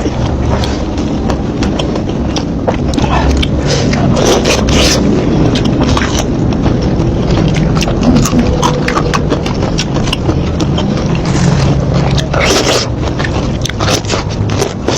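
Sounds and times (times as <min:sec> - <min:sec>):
low background rumble: 0:00.0 - 0:14.9
wet chewing and lip smacks: 0:00.0 - 0:14.9.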